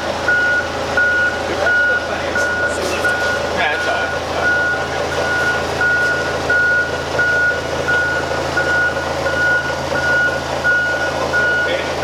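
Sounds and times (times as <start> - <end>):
low engine hum: 0.0 - 12.0
reversing alarm beeps: 0.3 - 11.9.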